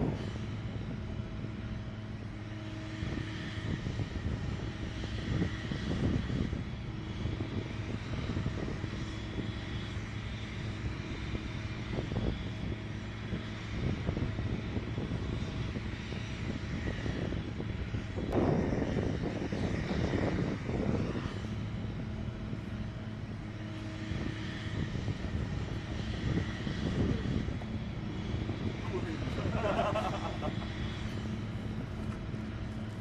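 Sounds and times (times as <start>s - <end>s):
aircraft engine drone: 0.0s - 33.0s.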